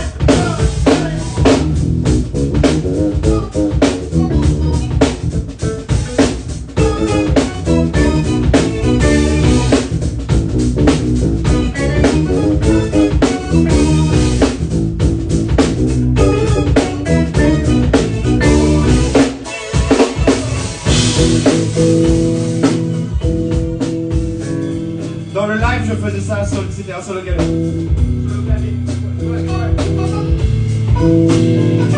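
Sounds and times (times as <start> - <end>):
drum kit groove: 0.0 - 31.9
live band playing: 0.0 - 31.9.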